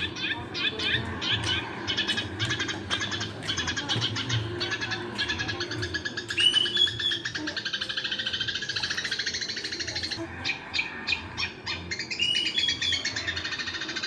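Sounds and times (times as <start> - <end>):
bulbul song: 0.0 - 14.0
sparrows chirping: 0.0 - 14.0.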